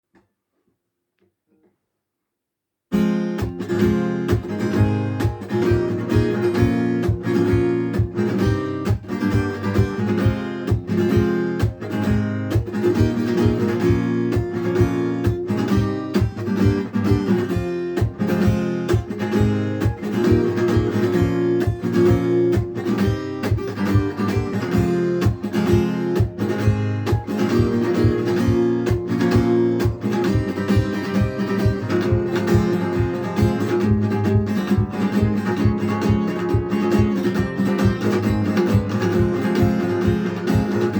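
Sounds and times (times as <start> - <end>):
guitar strummed: 2.9 - 40.9.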